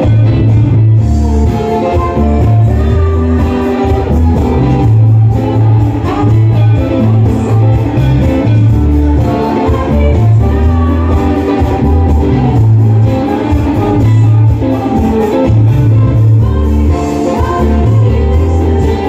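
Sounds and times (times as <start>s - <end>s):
bass guitar: 0.0s - 19.0s
drums: 0.0s - 19.0s
electric guitar: 0.0s - 19.0s
keyboards: 0.0s - 19.0s
women singing: 0.0s - 19.0s.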